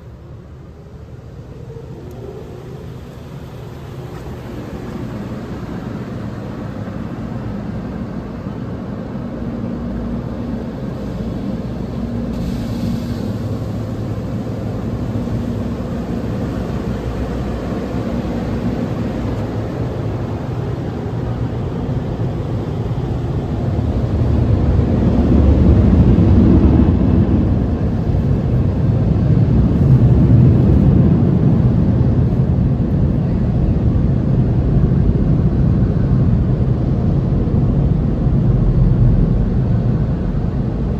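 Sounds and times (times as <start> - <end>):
low rumble with whooshing hiss: 0.0 - 40.9.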